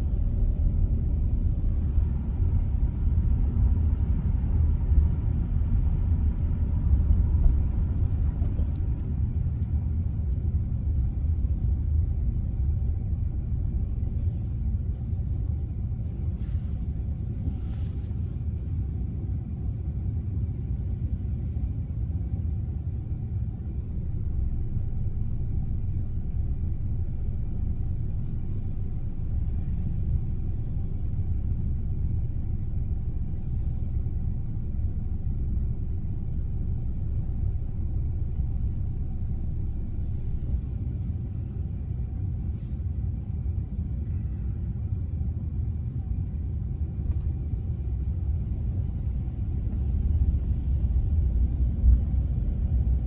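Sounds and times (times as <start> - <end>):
road and engine rumble in car: 0.0 - 53.0.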